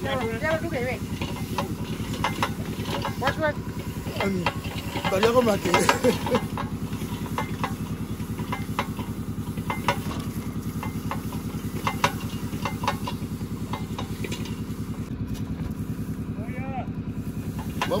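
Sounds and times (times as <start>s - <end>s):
small engine running: 0.0s - 18.0s
sharp clicks and knocks: 0.1s - 14.8s.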